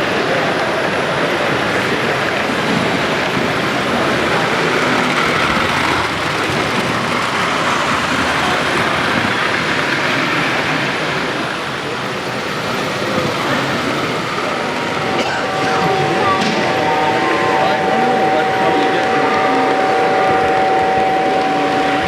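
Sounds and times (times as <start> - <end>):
busy hall din: 0.0 - 22.0.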